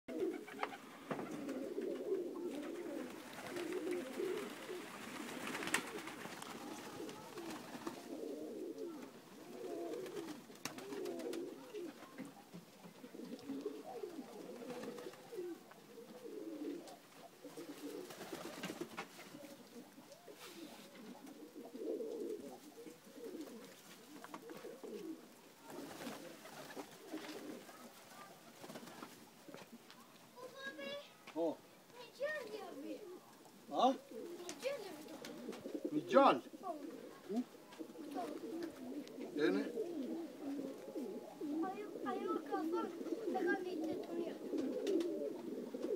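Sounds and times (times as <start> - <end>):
pigeons cooing: 0.1 - 31.0, 32.2 - 45.9.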